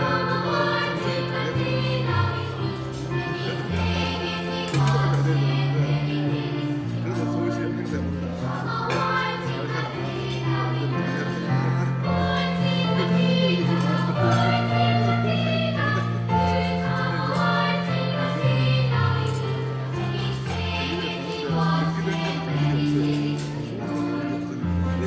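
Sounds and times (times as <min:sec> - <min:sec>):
children's choir singing: 0:00.0 - 0:25.0
instrumental accompaniment: 0:00.0 - 0:25.0.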